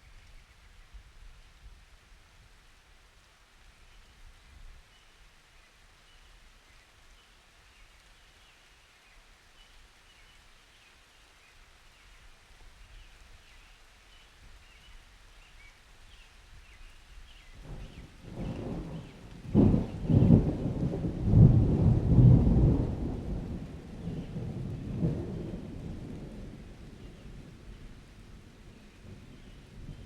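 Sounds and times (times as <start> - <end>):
faint rain: 0.0 - 30.0.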